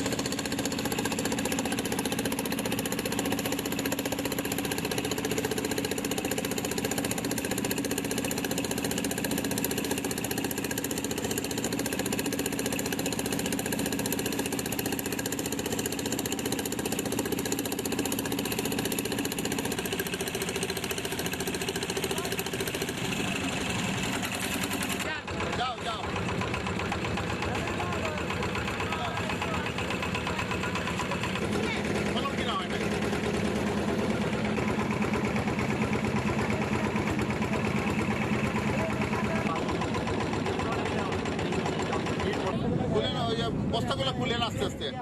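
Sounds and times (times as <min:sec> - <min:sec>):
engine running steadily: 0:00.0 - 0:45.0.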